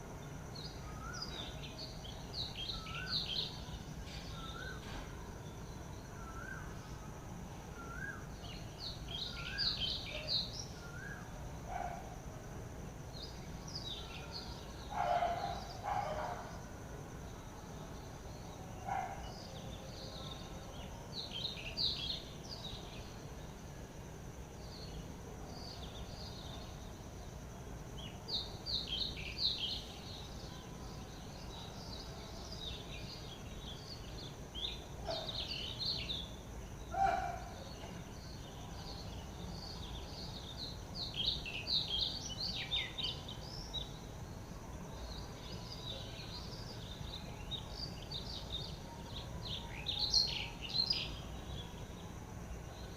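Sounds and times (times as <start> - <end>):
birds chirping and twittering: 0.0 - 12.2, 13.0 - 16.7, 17.4 - 23.7, 24.6 - 52.9
background hiss: 0.0 - 52.9.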